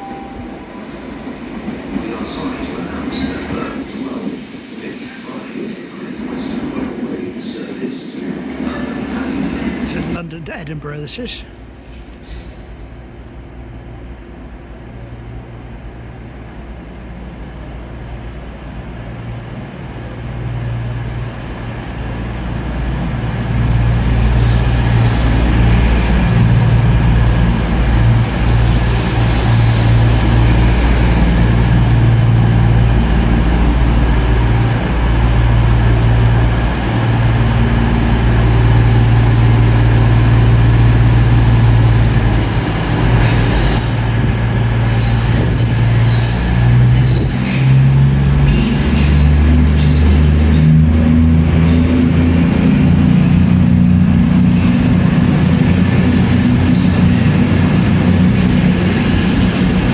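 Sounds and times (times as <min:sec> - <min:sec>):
diesel train engine drone: 0:00.0 - 0:59.9.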